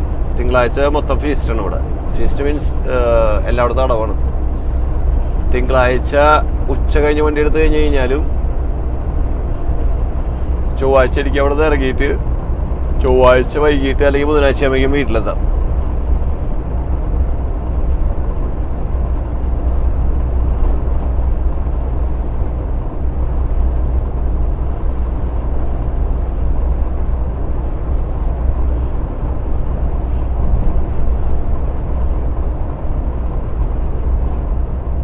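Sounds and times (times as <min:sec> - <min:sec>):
truck cab engine and road drone: 0:00.0 - 0:35.0.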